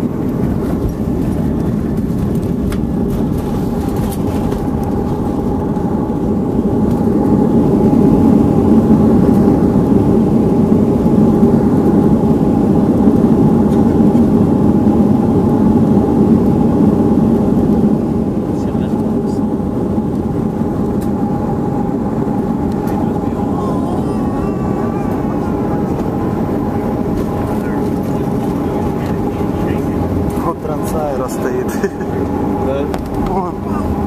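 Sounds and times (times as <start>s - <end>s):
jet engine roar: 0.0s - 34.0s
runway rumble: 0.0s - 34.0s.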